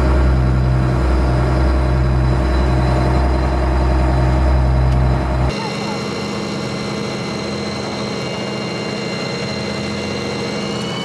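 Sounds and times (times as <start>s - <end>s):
boat engine running: 0.0s - 11.0s
high whine: 0.0s - 11.0s.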